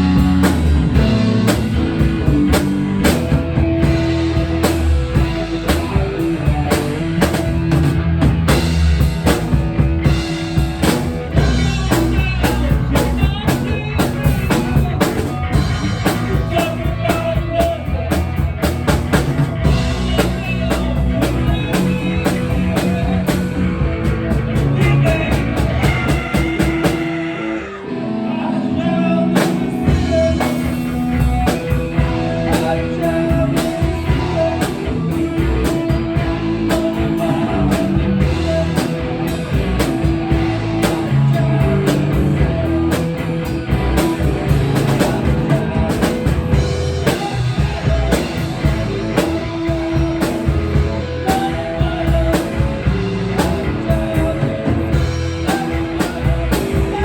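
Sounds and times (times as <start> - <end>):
drum kit beat: 0.0 - 27.4, 29.4 - 57.0
rock music: 0.0 - 57.0.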